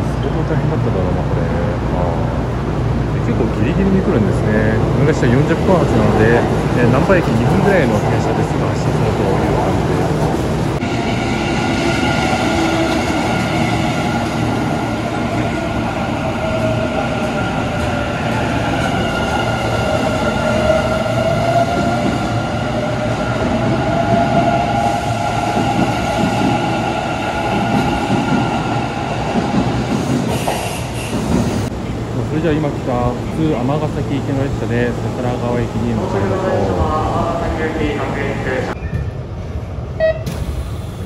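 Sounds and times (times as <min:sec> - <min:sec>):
train cars rumbling past: 0:00.0 - 0:41.0.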